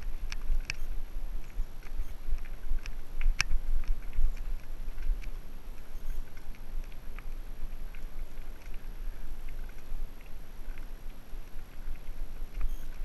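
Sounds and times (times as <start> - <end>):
bike clicks and rattles over stones: 0.0 - 13.0
wind rumble on microphone: 0.0 - 13.0.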